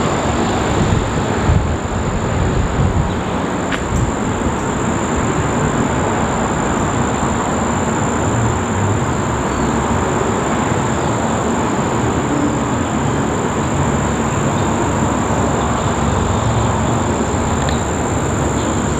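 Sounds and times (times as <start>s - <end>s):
distant helicopter rumble: 0.0s - 18.9s.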